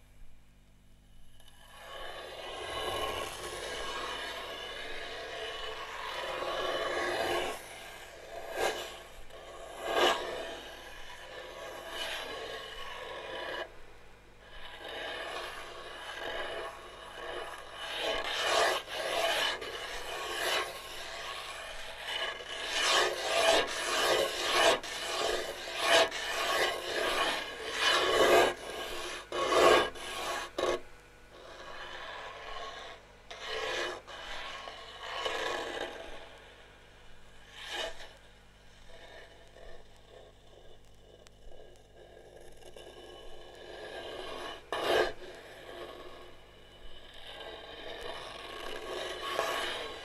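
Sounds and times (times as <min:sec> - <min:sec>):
faint low hum: 0:00.0 - 0:50.0
rough rasping and rubbing: 0:01.4 - 0:13.8, 0:14.4 - 0:36.4, 0:38.8 - 0:50.0.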